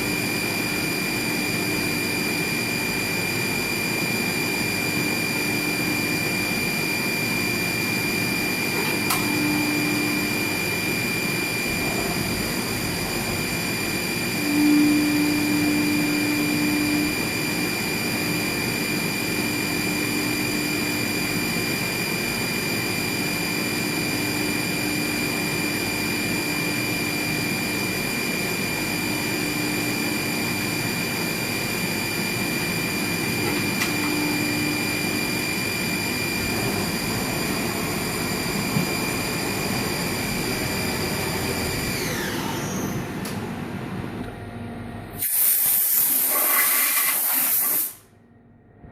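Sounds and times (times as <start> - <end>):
high spindle whine: 0.0 - 43.8
milling machine running: 0.0 - 44.0.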